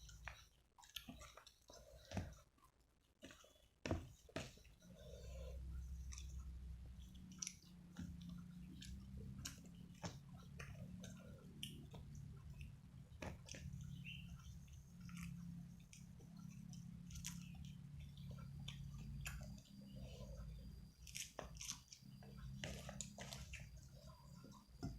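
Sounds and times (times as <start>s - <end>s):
person chewing: 0.0s - 24.9s
steady low hum: 3.9s - 24.9s.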